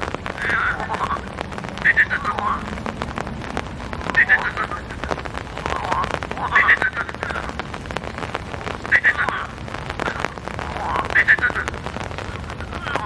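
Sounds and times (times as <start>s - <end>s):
frogs croaking: 0.0s - 13.0s
steady rain with drop hits: 0.0s - 13.0s.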